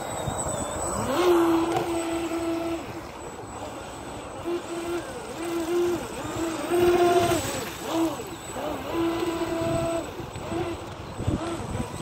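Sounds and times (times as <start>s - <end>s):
small boat motor whining: 0.0s - 12.0s.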